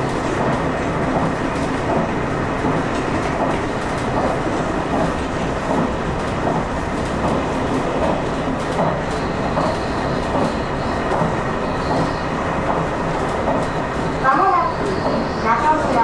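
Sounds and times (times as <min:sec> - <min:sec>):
wheels clattering over track: 0:00.0 - 0:15.8
train engine and wheels rumbling: 0:00.0 - 0:16.0.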